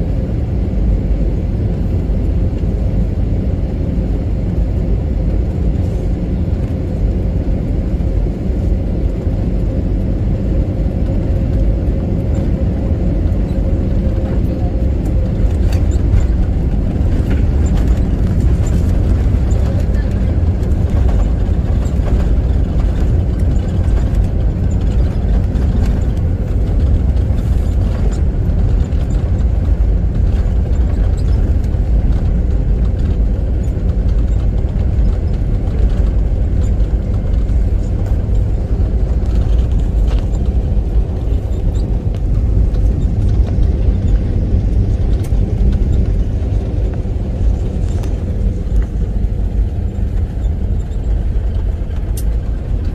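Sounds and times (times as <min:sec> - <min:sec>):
vehicle rumble: 0:00.0 - 0:52.9.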